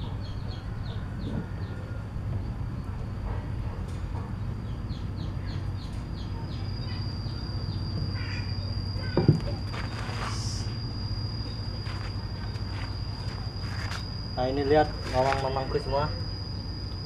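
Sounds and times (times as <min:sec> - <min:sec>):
insect trill: 0:00.0 - 0:03.0, 0:04.2 - 0:17.0
low hum: 0:00.0 - 0:17.0.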